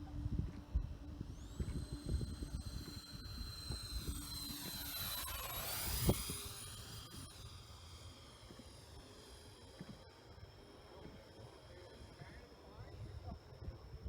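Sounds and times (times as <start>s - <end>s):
model jet engine whine: 0.0s - 14.0s.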